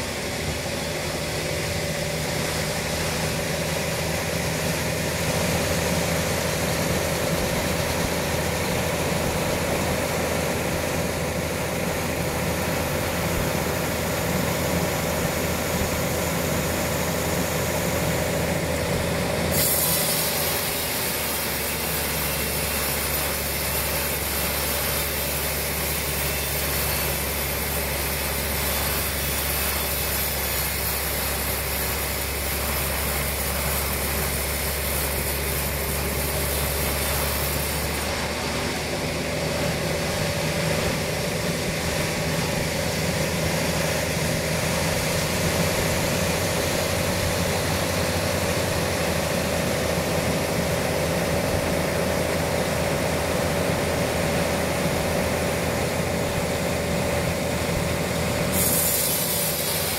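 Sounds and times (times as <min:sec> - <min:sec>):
bandsaw blade sawing through log: 0:00.0 - 0:59.9.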